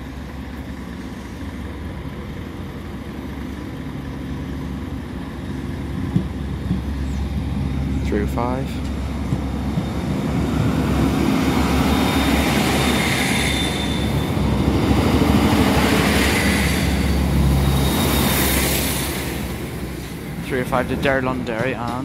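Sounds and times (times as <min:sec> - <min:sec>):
diesel train rumbling past: 0:00.0 - 0:22.0.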